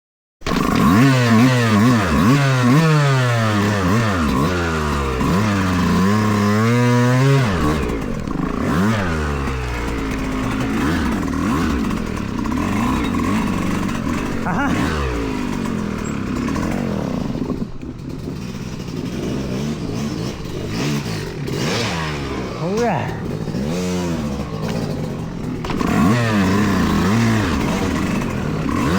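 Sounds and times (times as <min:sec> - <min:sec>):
dirt bike engine revving: 0:00.4 - 0:28.9.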